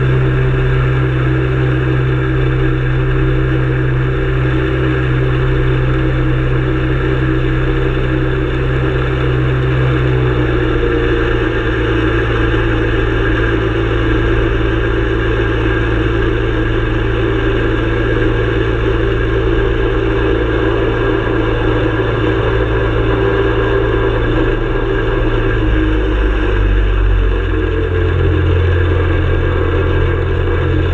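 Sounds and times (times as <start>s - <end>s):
aircraft engine running: 0.0s - 30.9s.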